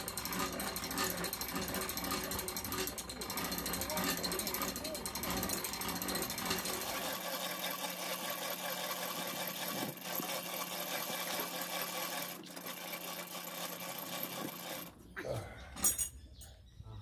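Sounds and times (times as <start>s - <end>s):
electric winch motor running: 0.0s - 15.1s.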